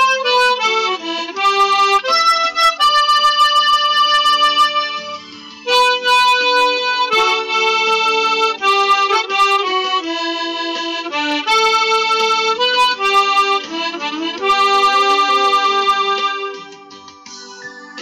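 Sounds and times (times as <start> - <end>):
harmonica melody: 0.0 - 18.0
keyboard accompaniment: 0.0 - 18.0.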